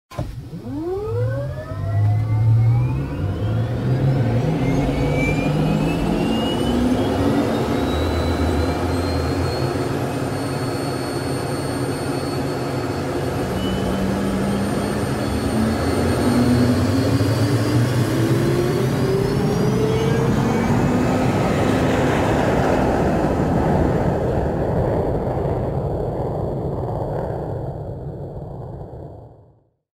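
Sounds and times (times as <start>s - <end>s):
jet engine spooling up: 0.2s - 29.6s.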